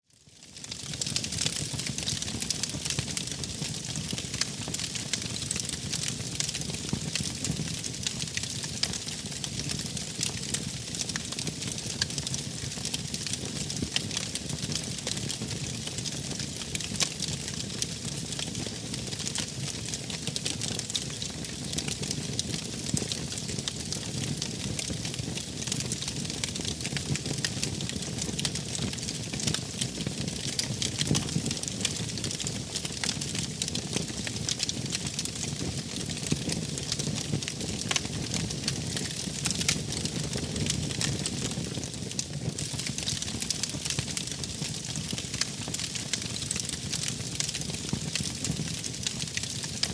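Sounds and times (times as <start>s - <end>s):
wood fire crackling: 0.6s - 49.9s.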